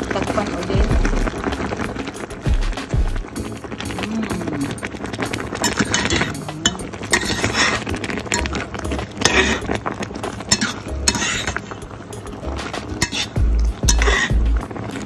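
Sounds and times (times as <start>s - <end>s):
utensil scraping cooking pot: 0.0s - 15.0s.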